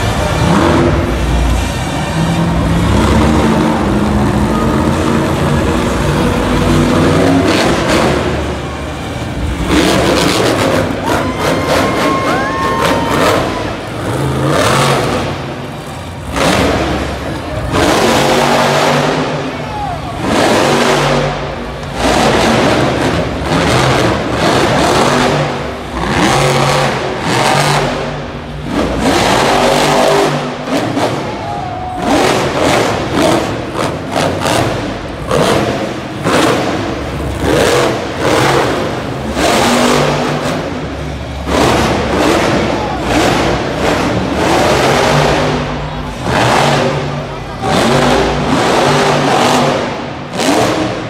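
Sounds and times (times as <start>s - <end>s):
monster truck engine revving: 0.0s - 51.0s.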